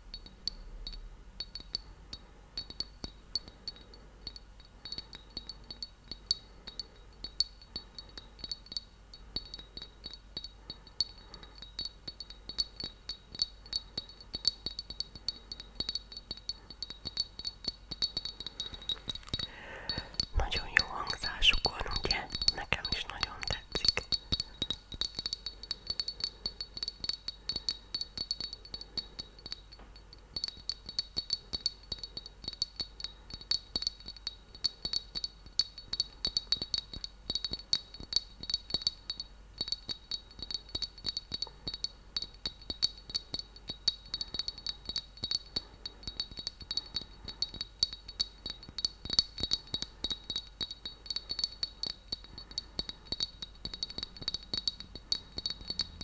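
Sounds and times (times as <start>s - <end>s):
small cup clinking and rattling: 0.2s - 56.0s.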